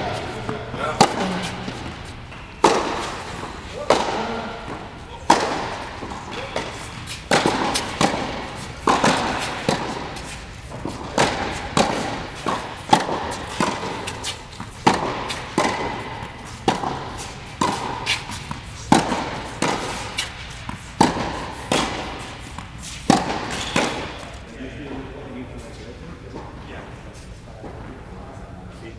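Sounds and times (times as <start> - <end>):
balls bouncing on hard court: 0.0 - 24.4
tennis balls struck by rackets: 0.0 - 24.5.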